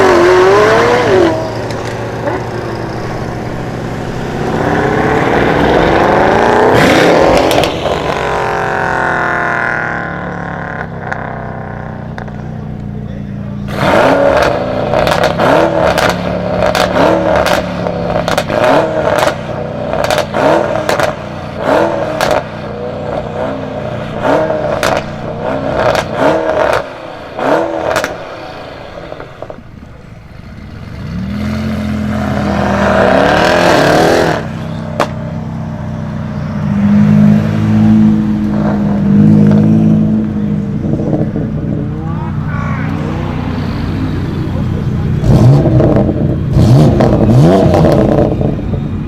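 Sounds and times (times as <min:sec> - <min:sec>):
sports car engine revving: 0:00.0 - 0:49.0.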